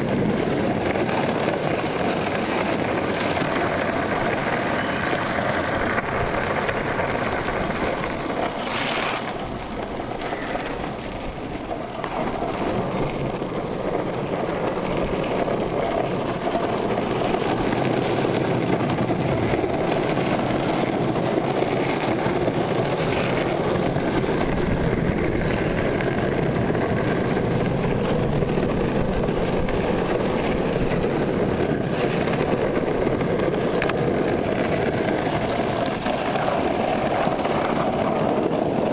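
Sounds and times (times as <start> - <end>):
longboard wheels rolling on asphalt: 0.0 - 38.9.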